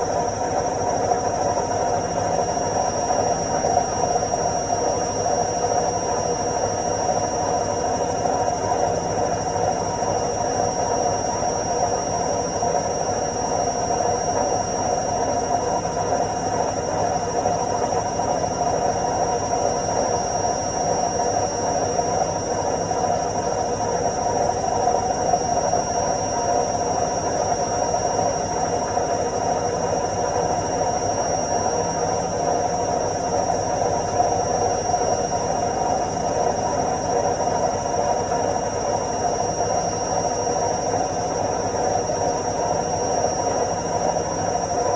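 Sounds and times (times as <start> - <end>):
washing machine spinning: 0.0 - 44.9.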